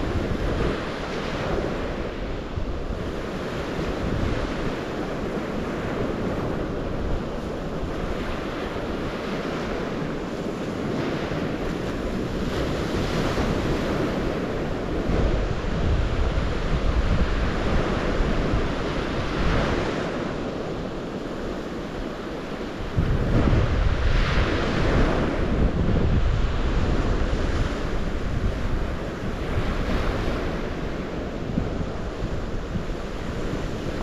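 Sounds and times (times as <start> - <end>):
waves washing onto shore: 0.0 - 34.0
wind buffeting microphone: 0.0 - 34.0.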